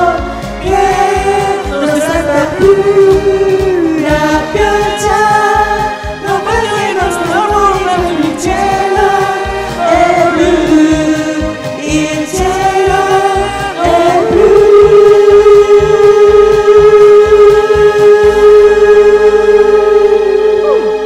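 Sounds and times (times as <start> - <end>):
karaoke backing track: 0.0 - 21.0
person singing pop song: 0.0 - 21.0.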